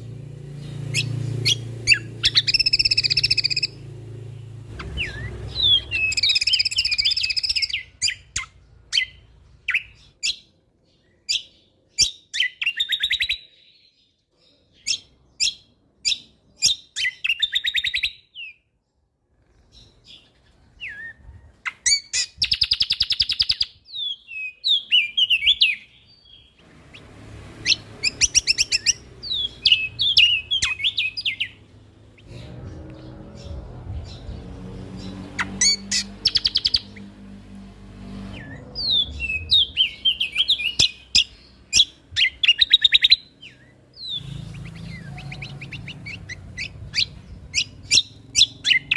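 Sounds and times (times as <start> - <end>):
songbird trilling and chirping: 0.5 - 18.6, 19.4 - 37.3, 38.2 - 48.9.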